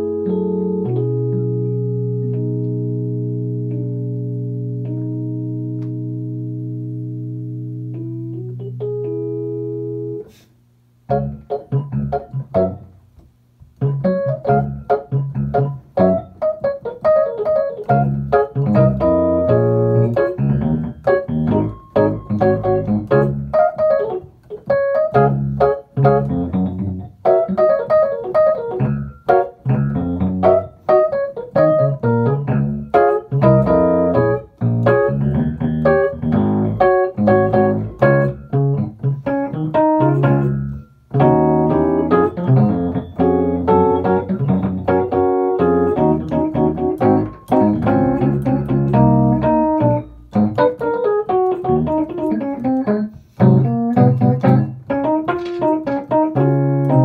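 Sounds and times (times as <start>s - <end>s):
electric piano playing: 0.0s - 10.4s, 11.0s - 13.1s, 13.7s - 57.0s.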